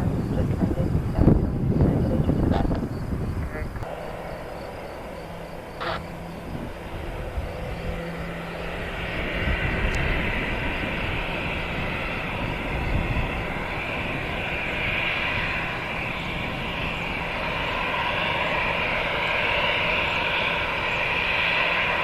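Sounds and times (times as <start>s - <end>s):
jet engines whining while taxiing: 0.0s - 22.0s.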